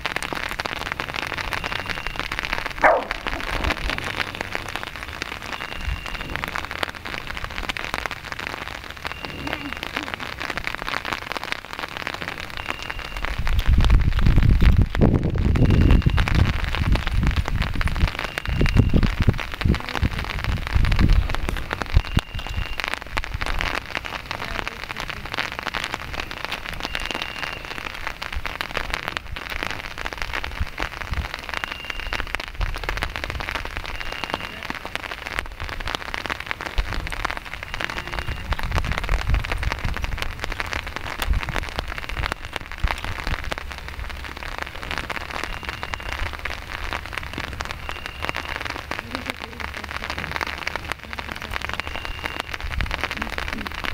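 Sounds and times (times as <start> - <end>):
rain pattering: 0.0 - 53.9.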